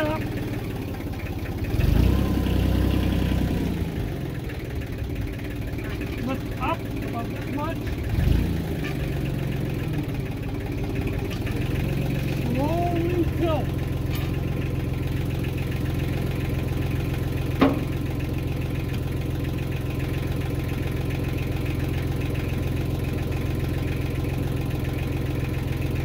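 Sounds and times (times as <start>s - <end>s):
tractor engine idling: 0.0s - 26.0s.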